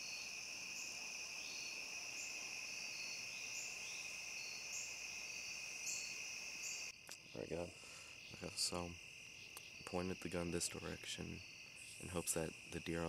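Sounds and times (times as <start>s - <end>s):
crickets chirping: 0.0s - 13.0s
insects trilling: 0.0s - 13.0s.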